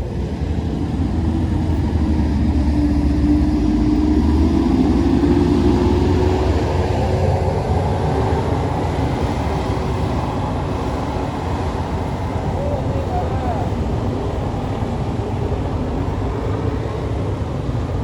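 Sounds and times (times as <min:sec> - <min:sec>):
heavy vehicle engine labouring uphill: 0:00.0 - 0:18.0.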